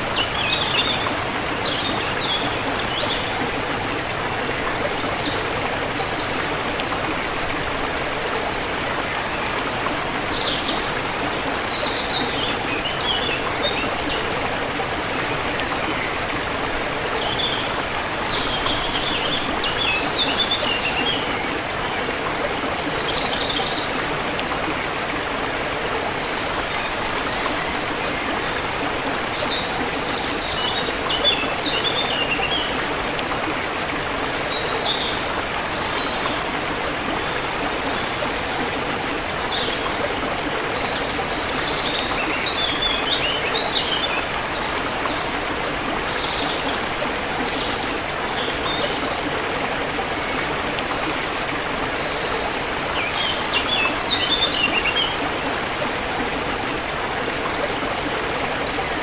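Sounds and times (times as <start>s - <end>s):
river water running over rocks: 0.0s - 59.0s.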